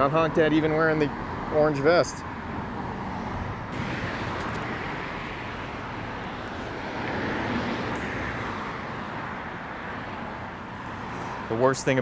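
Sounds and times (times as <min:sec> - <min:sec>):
cars passing on busy road: 0:00.0 - 0:12.0.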